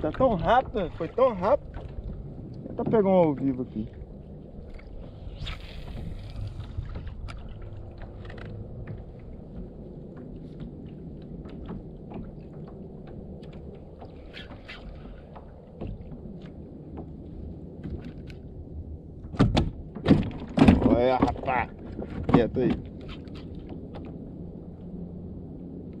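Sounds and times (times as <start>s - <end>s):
low wind noise: 0.0s - 26.0s
water lapping against hull: 0.0s - 26.0s.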